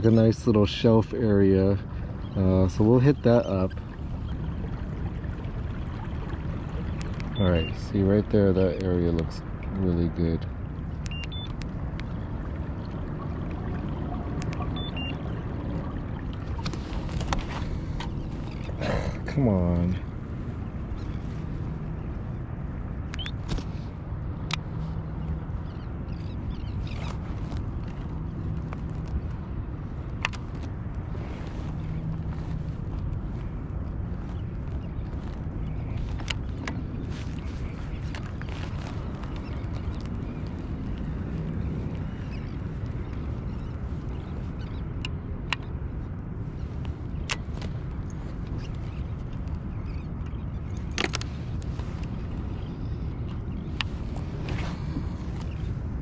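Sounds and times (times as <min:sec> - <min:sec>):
birds calling: 0:00.0 - 0:56.0
wind and water rumble: 0:00.0 - 0:56.0.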